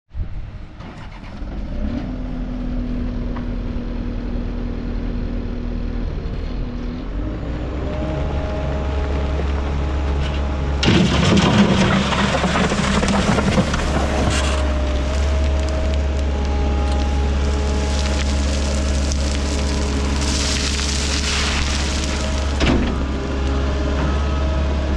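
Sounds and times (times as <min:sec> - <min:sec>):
diesel engine running: 0:02.5 - 0:24.9.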